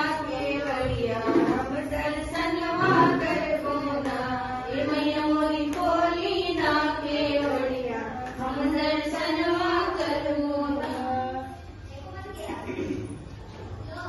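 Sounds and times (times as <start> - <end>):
women singing folk song: 0.0 - 11.5.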